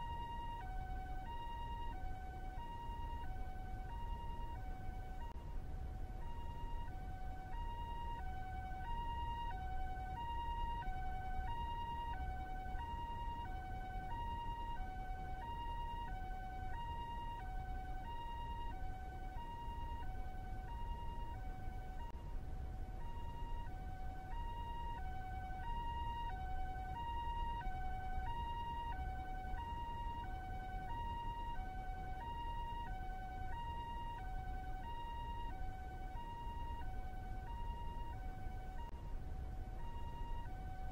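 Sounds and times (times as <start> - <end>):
low steady rumble: 0.0 - 40.9
two-tone ambulance siren: 0.0 - 40.9.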